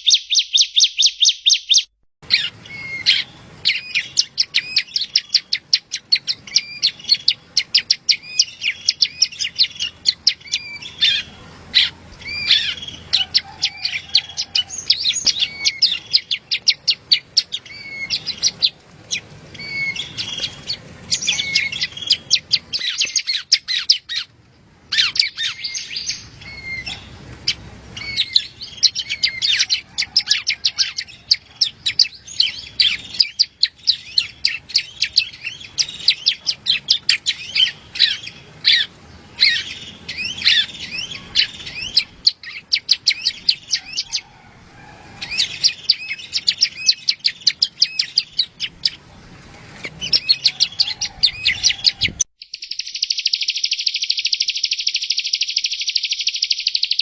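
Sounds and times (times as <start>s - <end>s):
bird singing high chirps: 0.0s - 24.3s, 24.9s - 44.3s, 45.2s - 49.0s, 50.0s - 57.0s.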